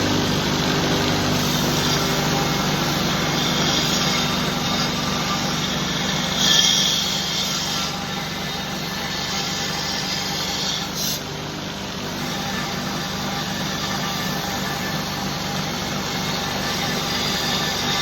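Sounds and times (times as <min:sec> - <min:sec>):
belt grinder motor humming: 0:00.0 - 0:18.0
grinder belt hiss: 0:00.0 - 0:18.0.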